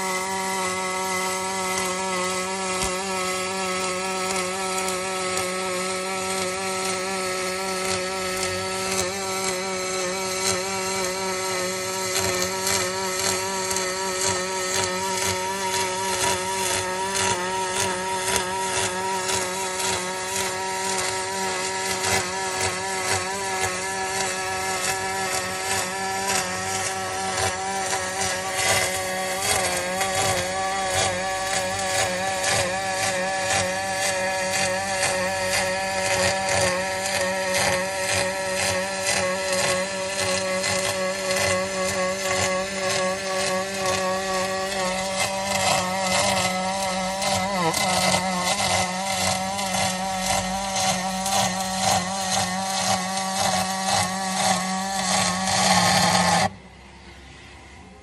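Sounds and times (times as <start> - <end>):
welding arc buzzing and crackling: 0.0 - 56.5.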